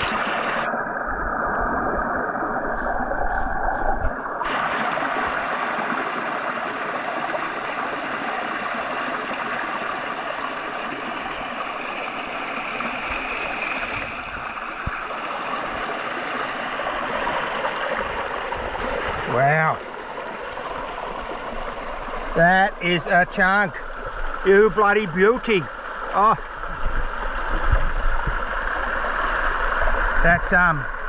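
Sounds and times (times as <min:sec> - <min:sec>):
creek water rushing over waterfall: 0:00.0 - 0:31.0.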